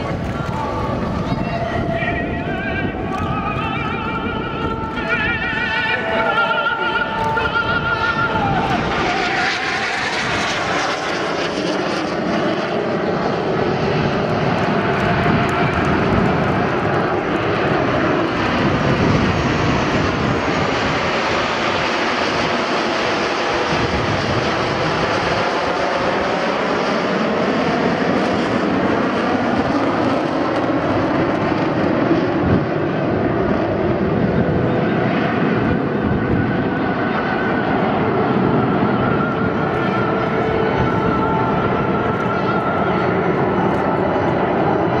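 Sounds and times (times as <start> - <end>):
jet engines roaring past: 0.0 - 45.0.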